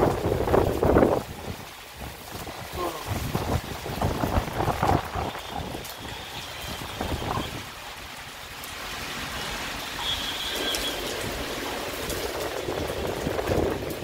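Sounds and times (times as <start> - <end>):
heavy rain pouring on road: 0.0 - 14.0
traffic on wet road: 0.0 - 14.0.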